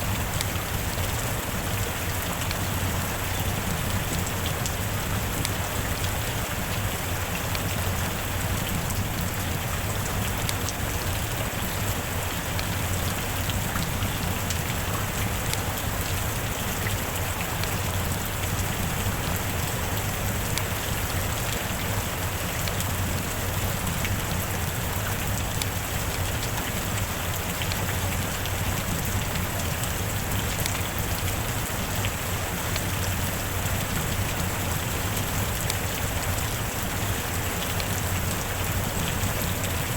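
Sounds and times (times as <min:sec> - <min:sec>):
rain falling: 0:00.0 - 0:39.9
raindrop ticks: 0:00.1 - 0:39.9.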